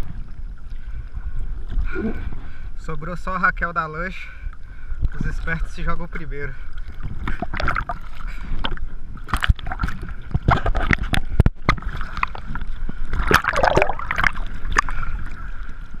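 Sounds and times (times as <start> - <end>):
water slapping against hull: 0.0 - 2.7, 4.4 - 16.0.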